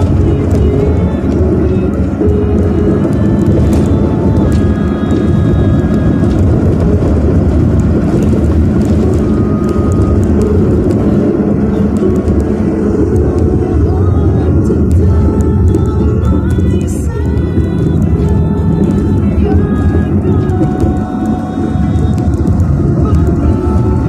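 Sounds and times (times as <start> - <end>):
car engine: 0.0 - 24.0
road noise: 0.0 - 24.0.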